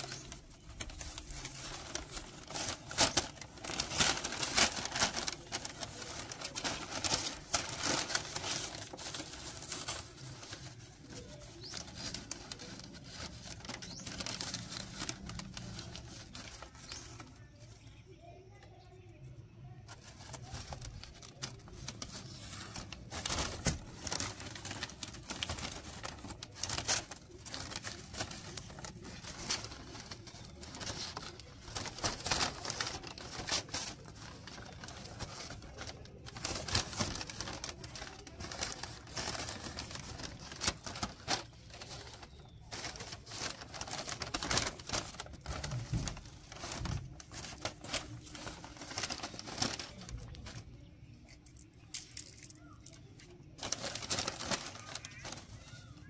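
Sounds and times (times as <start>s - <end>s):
newspaper rustling and crinkling: 0.0s - 18.4s, 19.8s - 56.0s.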